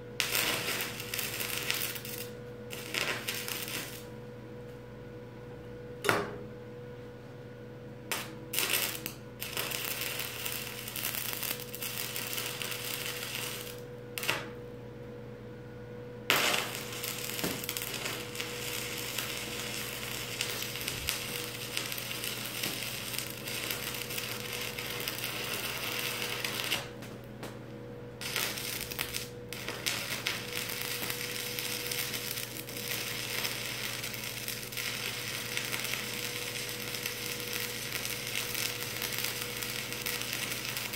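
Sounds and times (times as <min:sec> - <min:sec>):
arc welder crackling: 0:00.0 - 0:04.8, 0:08.0 - 0:14.7, 0:16.2 - 0:40.9
steady low hum: 0:00.0 - 0:40.9.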